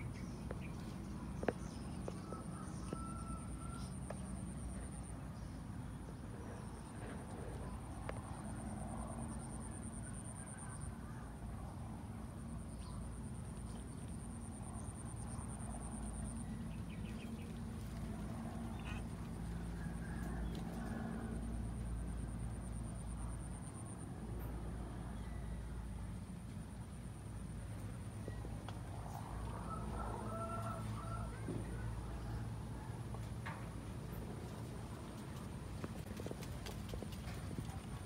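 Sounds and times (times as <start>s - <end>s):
low steady rumble: 0.0s - 38.0s.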